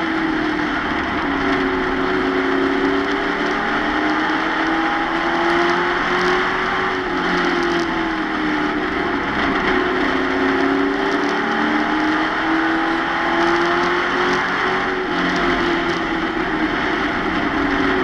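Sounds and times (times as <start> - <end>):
race truck engine: 0.0 - 18.0
wind and road noise: 0.0 - 18.0.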